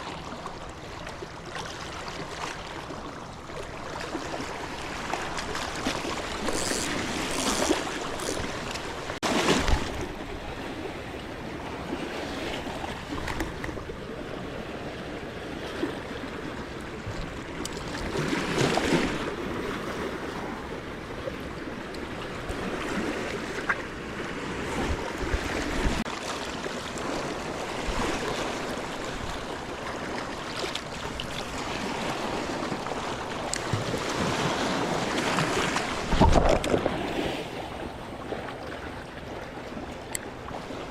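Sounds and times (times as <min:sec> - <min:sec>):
sea water washing at shore: 0:00.0 - 0:40.9.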